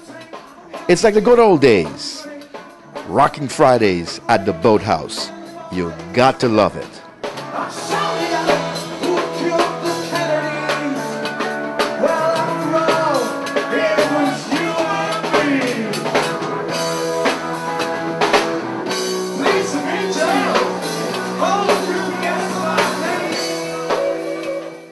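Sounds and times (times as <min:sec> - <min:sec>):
rock band playing: 0:00.8 - 0:24.9.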